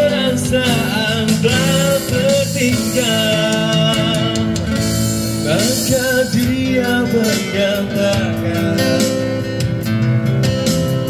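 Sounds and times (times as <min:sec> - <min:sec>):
man singing: 0:00.0 - 0:09.6
bass guitar: 0:00.0 - 0:11.0
keyboard: 0:00.0 - 0:11.0
strummed acoustic guitar: 0:00.0 - 0:11.0.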